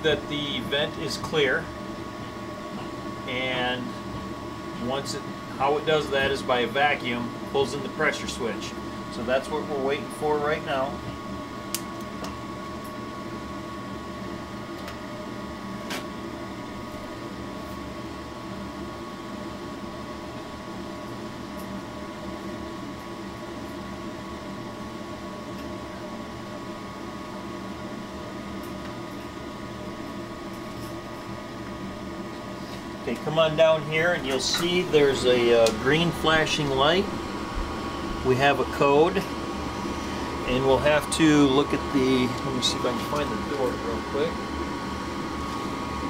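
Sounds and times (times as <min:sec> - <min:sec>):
inducer motor humming: 0:00.0 - 0:46.0.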